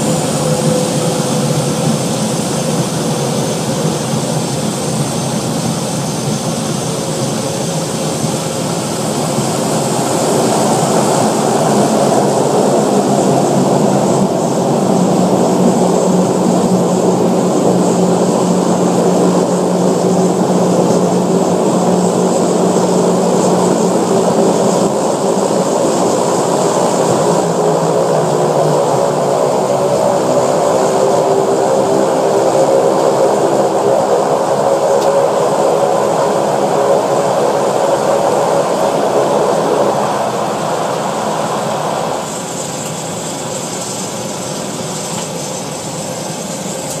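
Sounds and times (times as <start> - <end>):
turboprop engine droning: 0.0 - 47.0.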